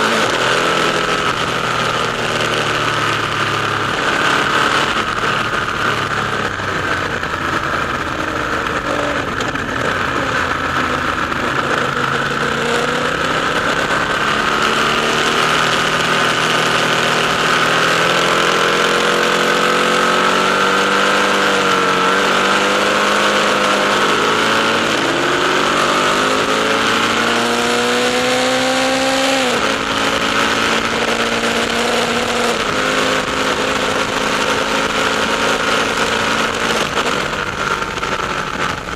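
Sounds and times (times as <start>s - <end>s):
motorcycle engine in tunnel: 0.0s - 38.9s.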